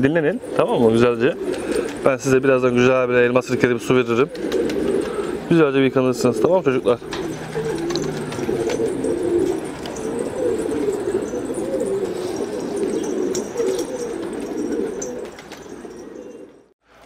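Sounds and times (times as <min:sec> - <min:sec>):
pigeons cooing: 0:00.0 - 0:16.7.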